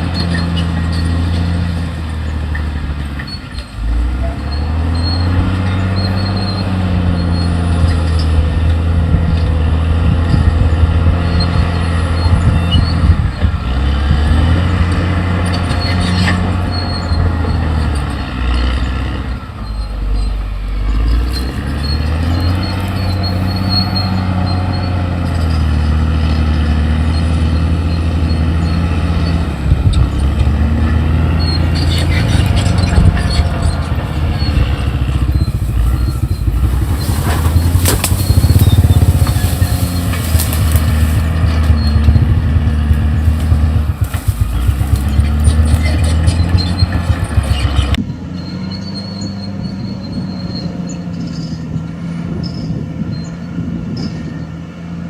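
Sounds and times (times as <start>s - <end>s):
clatter: 0.0s - 48.0s
bulldozer diesel engine under load: 0.0s - 55.0s.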